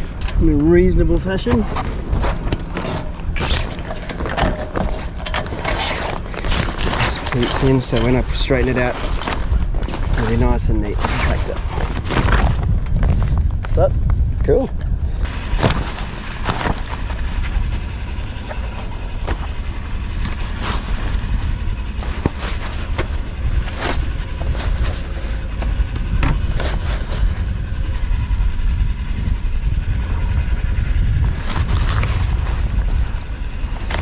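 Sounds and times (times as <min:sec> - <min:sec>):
sail cloth rustling and crackling: 0:00.0 - 0:34.0
wind rumbling on microphone: 0:00.0 - 0:34.0.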